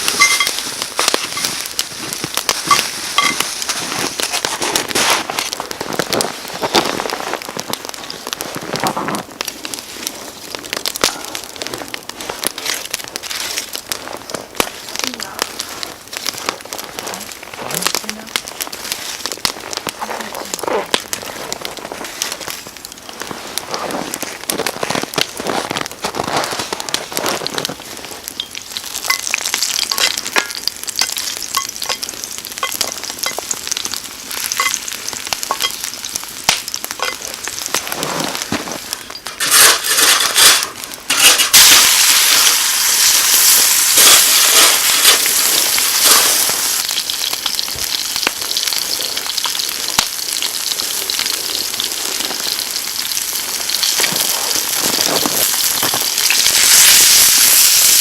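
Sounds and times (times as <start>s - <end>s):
steak sizzling in a pan: 0.0s - 58.0s.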